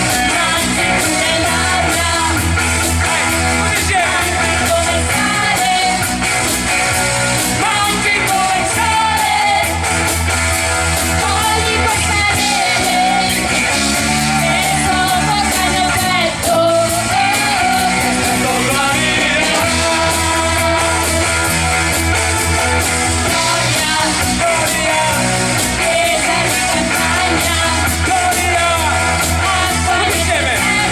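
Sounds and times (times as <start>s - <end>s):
guitar and bass backing: 0.0s - 30.9s
man singing rock song: 0.0s - 30.9s.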